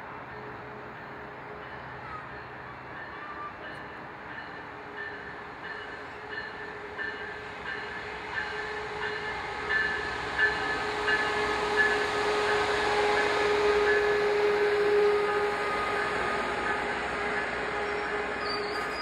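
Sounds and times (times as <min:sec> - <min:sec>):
train approaching: 0:00.0 - 0:19.0.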